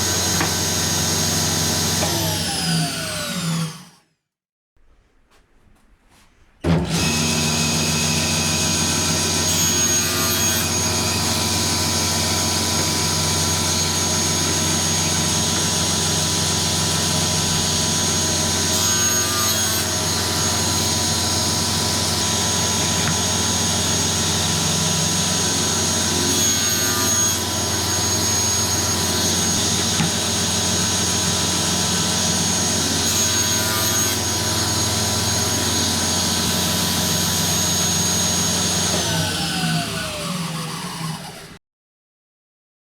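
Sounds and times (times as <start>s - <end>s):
power tool motor running: 0.0s - 4.0s, 6.8s - 41.6s.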